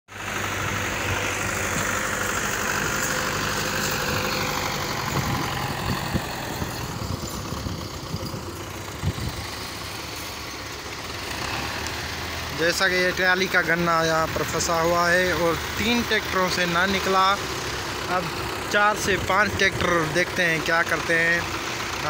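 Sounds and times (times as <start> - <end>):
tractors idling: 0.1 - 22.0.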